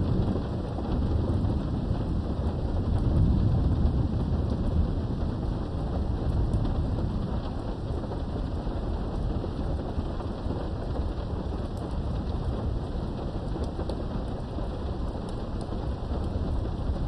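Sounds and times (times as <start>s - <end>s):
heavy rain: 0.0s - 17.0s
raindrop ticks: 0.0s - 17.0s
rumble of thunder: 0.0s - 17.0s.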